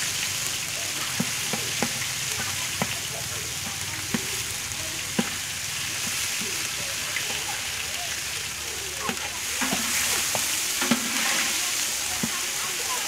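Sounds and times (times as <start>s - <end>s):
curry paste sizzling in oil: 0.0s - 13.0s.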